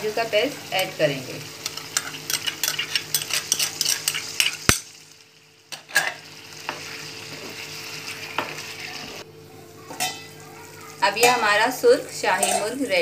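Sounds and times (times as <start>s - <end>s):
curry sizzling in pot: 0.0s - 13.0s.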